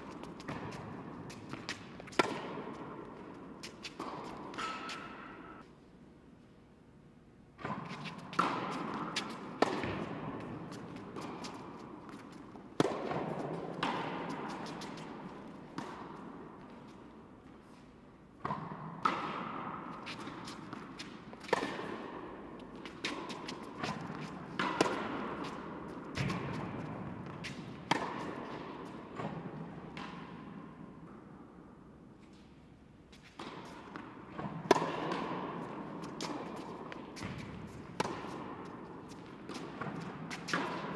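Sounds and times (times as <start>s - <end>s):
tennis balls bouncing on hard court: 0.0s - 5.6s, 7.6s - 31.5s, 32.3s - 40.9s
tennis balls hit by rackets: 0.0s - 5.6s, 7.6s - 17.5s, 18.2s - 31.5s, 33.0s - 40.9s.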